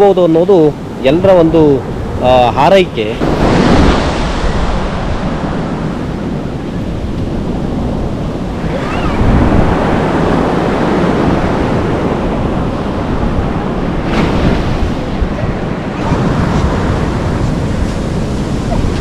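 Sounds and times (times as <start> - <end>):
wind buffeting microphone: 0.0 - 19.0
surf breaking on beach: 0.8 - 19.0.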